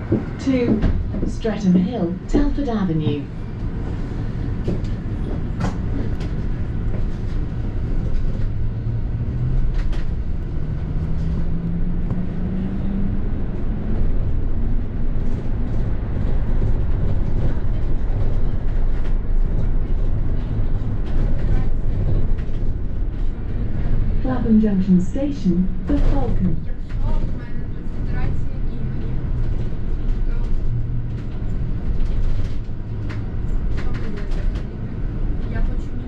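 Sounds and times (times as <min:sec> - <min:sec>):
bus engine rumble: 0:00.0 - 0:36.0.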